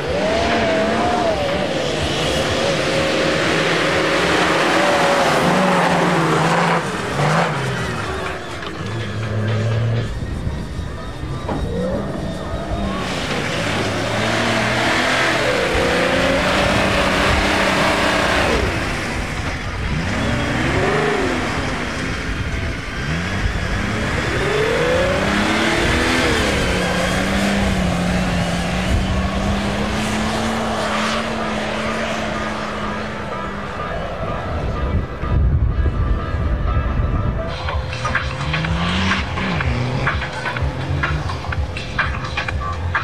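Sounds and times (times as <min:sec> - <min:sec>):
dirt and tyre noise: 0:00.0 - 0:43.0
race engines revving: 0:00.0 - 0:43.0.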